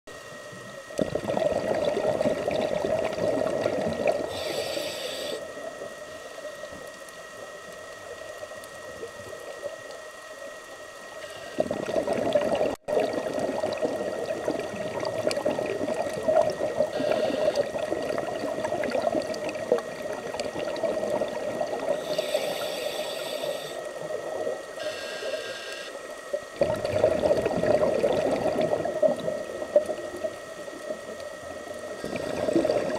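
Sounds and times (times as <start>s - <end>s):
underwater bubbling gurgles: 0.1s - 32.9s.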